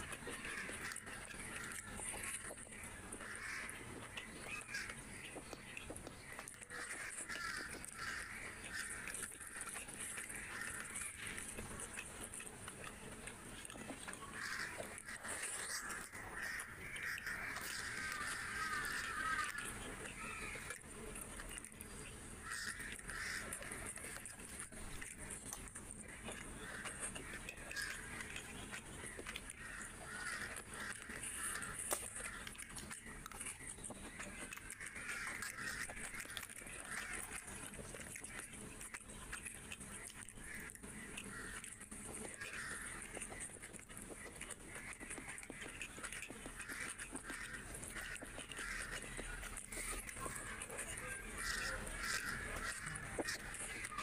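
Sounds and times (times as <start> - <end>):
fingers mixing food on a plate: 0.0 - 54.0
wet chewing and lip-smacking: 0.0 - 54.0.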